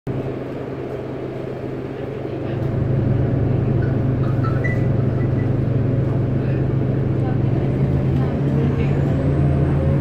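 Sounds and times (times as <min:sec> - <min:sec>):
bus engines droning: 0:00.1 - 0:10.0.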